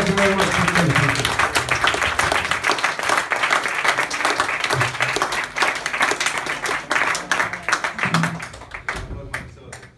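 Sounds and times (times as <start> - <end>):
audience clapping: 0.0 - 9.9.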